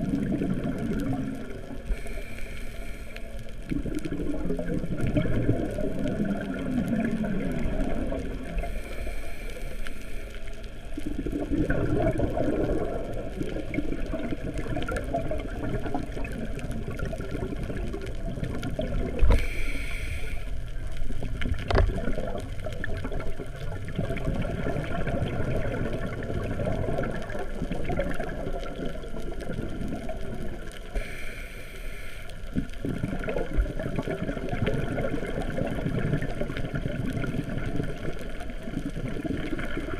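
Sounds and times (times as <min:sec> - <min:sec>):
bubbles gurgling: 0:00.0 - 0:02.0, 0:03.5 - 0:08.8, 0:10.9 - 0:19.5, 0:20.8 - 0:31.0, 0:32.5 - 0:39.9
underwater rumble: 0:00.0 - 0:39.9.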